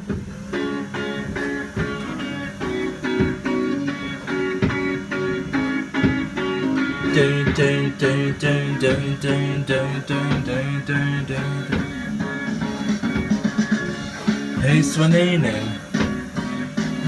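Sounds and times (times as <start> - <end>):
ride music from speaker: 0.0 - 17.0.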